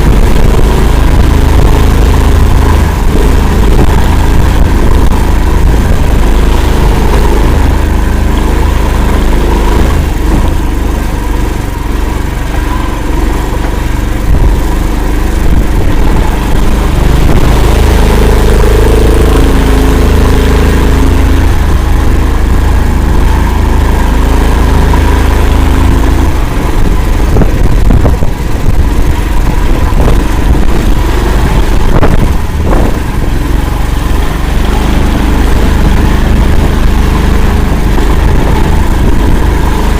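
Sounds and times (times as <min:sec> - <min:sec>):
vehicle engine running loud: 0:00.0 - 0:39.9.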